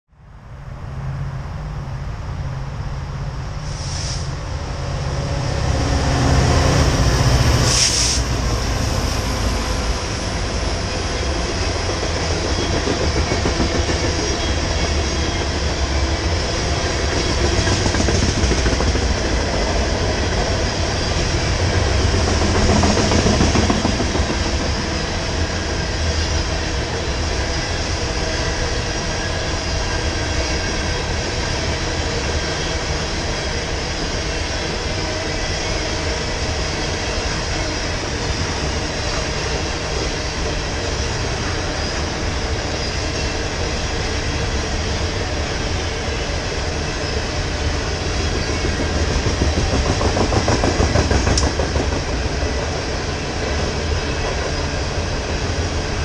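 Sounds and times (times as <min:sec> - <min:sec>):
steel wheels rumbling on rails: 0:01.7 - 0:56.0.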